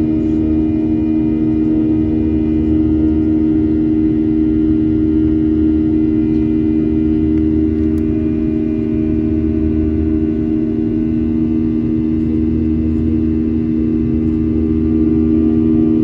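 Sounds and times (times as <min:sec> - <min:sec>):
jet engine drone in cabin: 0:00.0 - 0:16.0.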